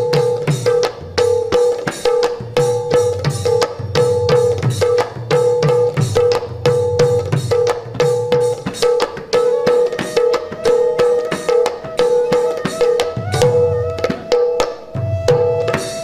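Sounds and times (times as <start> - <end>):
two-headed drum rhythm: 0.0 - 16.0.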